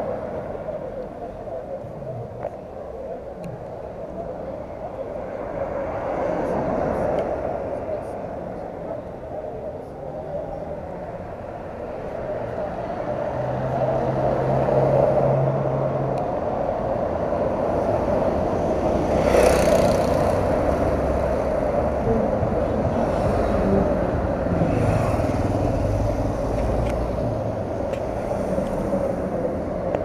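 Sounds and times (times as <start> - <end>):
low engine hum: 0.0 - 30.0
motorcycles and vehicles in street: 0.0 - 30.0.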